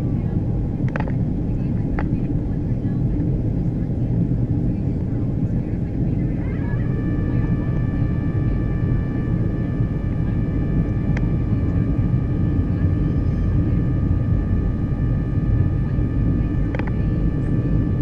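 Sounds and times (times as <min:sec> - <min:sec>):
airflow and jet engine rumble: 0:00.0 - 0:18.0.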